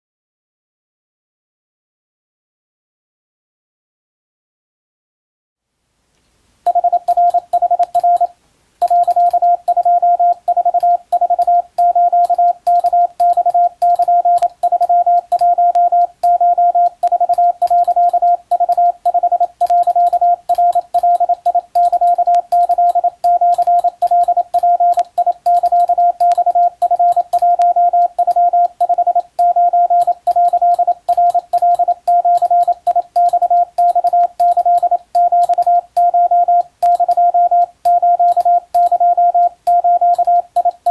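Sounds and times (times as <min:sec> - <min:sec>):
faint keying clicks: 0:06.2 - 0:40.9
morse code tone: 0:06.7 - 0:40.9.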